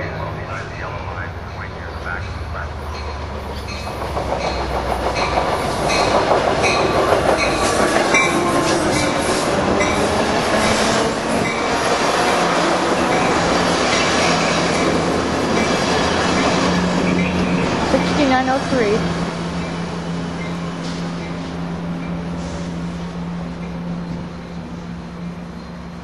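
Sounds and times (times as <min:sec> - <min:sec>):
train wheels clacking over rails: 0:02.1 - 0:24.3.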